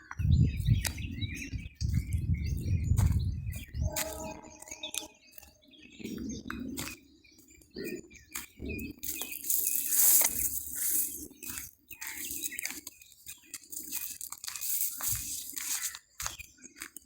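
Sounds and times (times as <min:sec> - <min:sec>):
low full bird call: 0:00.0 - 0:16.6
wild birds chirping: 0:00.0 - 0:17.0.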